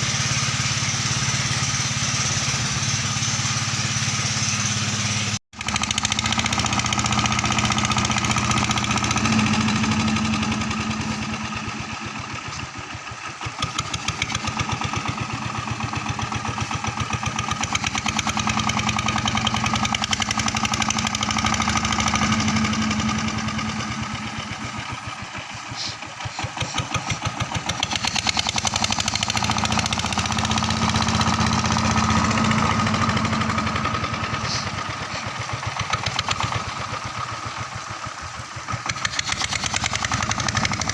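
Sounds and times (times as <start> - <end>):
pump engine pulsing: 0.0 - 40.9.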